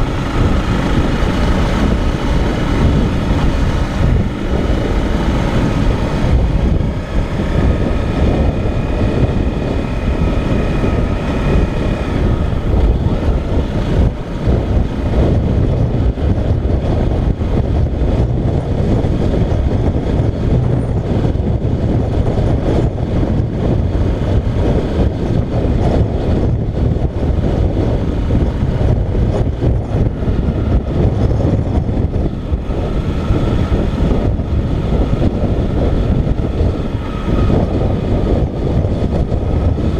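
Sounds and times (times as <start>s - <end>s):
motorcycle engine running: 0.0s - 39.9s
wind and road noise rumble: 0.0s - 39.9s.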